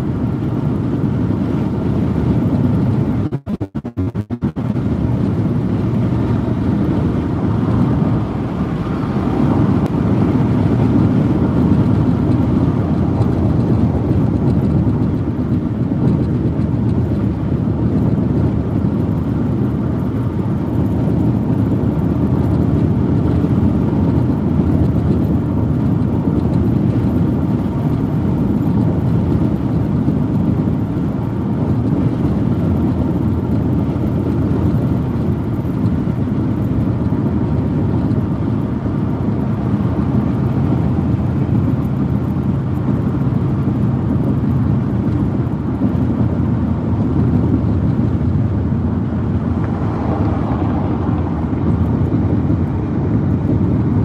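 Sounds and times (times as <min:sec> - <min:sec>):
road and tyre noise in car: 0:00.0 - 0:54.0.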